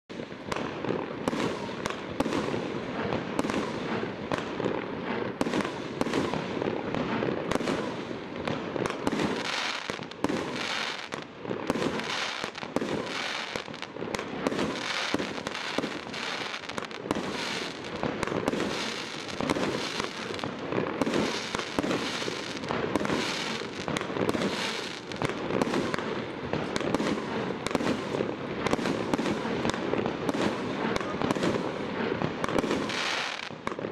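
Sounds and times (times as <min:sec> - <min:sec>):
firework bangs with crackling: 0:00.1 - 0:33.9.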